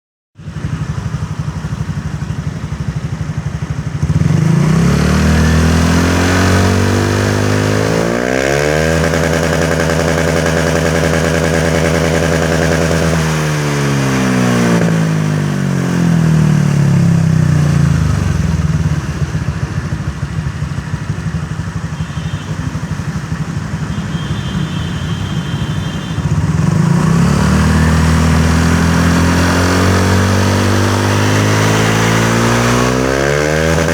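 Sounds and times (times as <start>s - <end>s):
scooter engine idling and revving: 0.4s - 33.9s.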